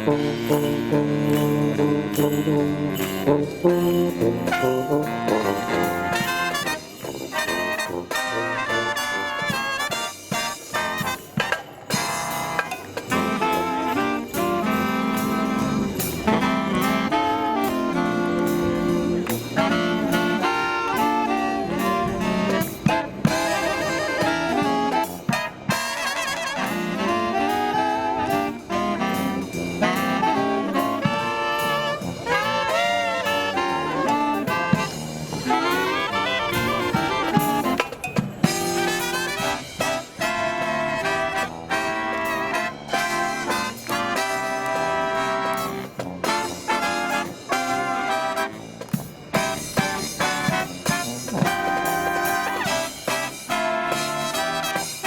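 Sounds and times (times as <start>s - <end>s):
marching brass band playing: 0.0s - 55.0s
steady drum beat: 0.0s - 55.0s.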